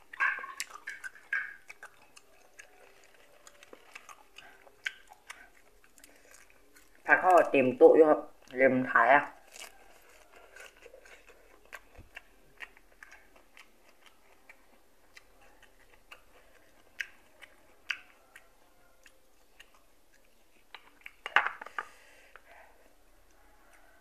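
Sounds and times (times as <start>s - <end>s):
mouth chewing: 0.0s - 24.0s.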